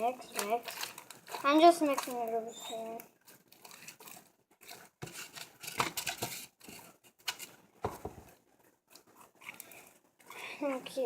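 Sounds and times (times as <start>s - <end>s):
slime stirred in a container: 0.0s - 11.0s.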